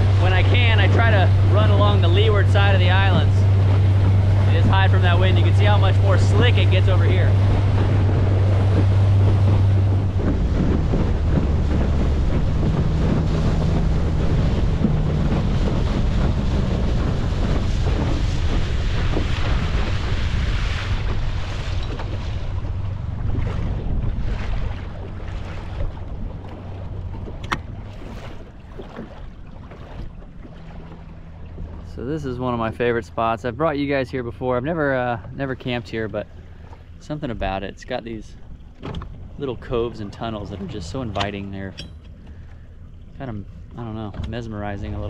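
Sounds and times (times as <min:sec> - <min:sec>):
outboard motor running: 0:00.0 - 0:45.0
water rushing past hull: 0:00.0 - 0:45.0
wind buffeting microphone: 0:00.0 - 0:45.0.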